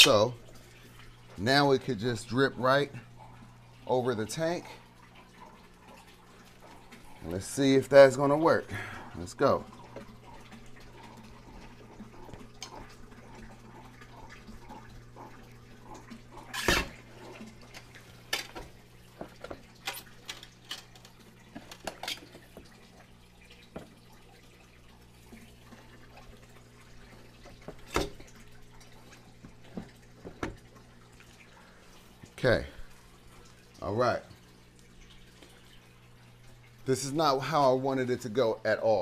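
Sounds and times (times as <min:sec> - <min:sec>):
aquarium filter hum: 0:00.0 - 0:39.0
water trickling and dripping: 0:00.0 - 0:39.0.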